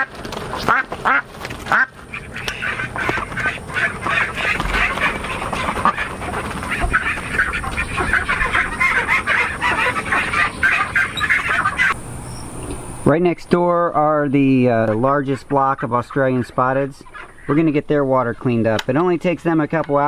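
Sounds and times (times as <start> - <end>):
ducks quacking and chattering: 0.0 - 12.0, 14.5 - 20.0.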